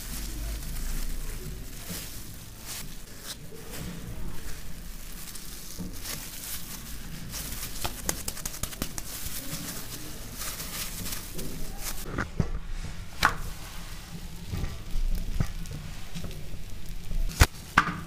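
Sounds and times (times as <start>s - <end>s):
hands kneading dough: 0.0s - 18.0s.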